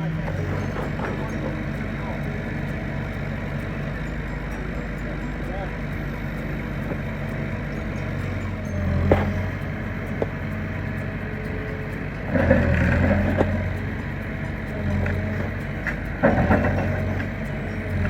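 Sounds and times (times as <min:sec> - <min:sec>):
heavy equipment engine revving: 0:00.0 - 0:18.0
sharp metallic knocks: 0:00.0 - 0:18.0.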